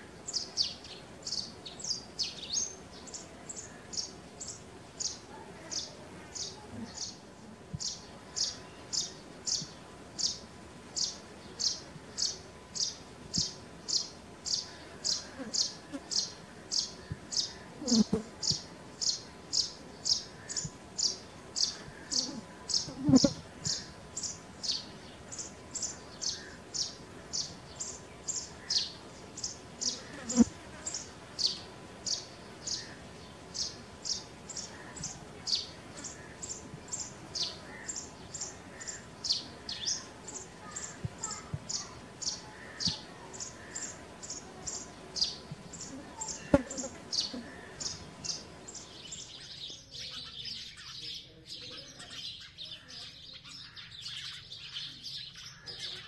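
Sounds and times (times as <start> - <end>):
sparrow chirping: 11.0 - 56.0.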